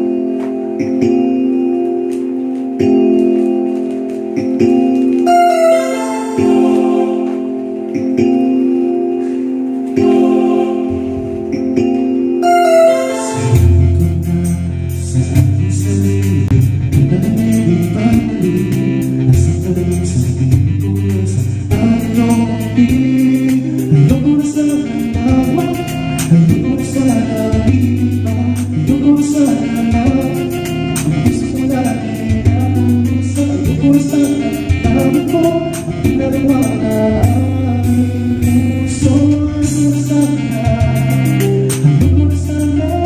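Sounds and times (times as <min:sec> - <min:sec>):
karaoke song with guitar and bass: 0:00.0 - 0:43.0
person singing: 0:02.8 - 0:43.0.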